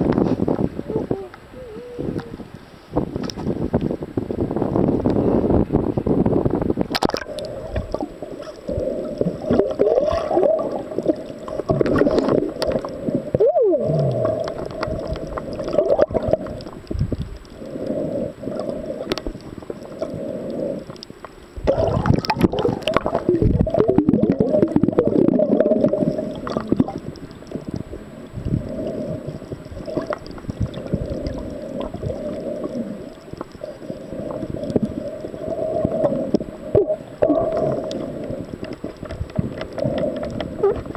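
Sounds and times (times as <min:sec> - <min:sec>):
underwater gurgling and sloshing: 0:00.0 - 0:40.9.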